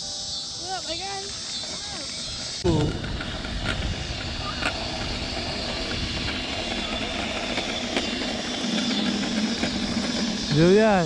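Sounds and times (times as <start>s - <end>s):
tyres rolling over asphalt: 0.6s - 11.0s
wind rumbling on microphone: 1.6s - 11.0s.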